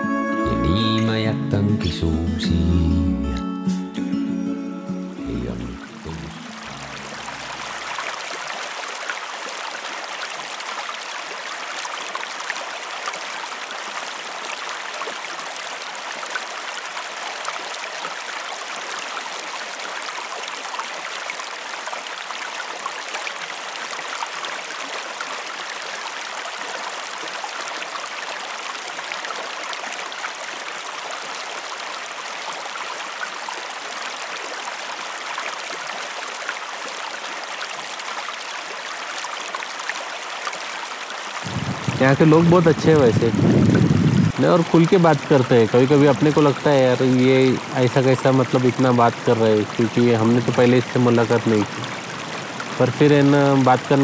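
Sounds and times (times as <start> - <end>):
stream flowing over rocks: 5.0 - 54.0.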